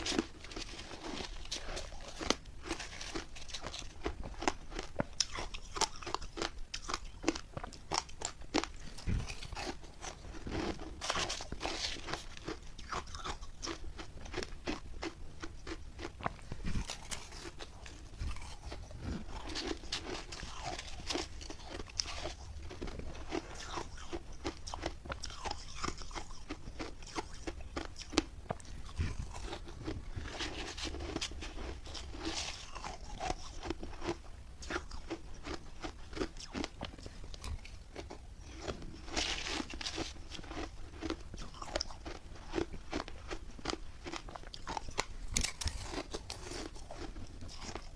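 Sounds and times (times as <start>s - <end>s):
ice crunching while chewing: 0.0s - 47.9s.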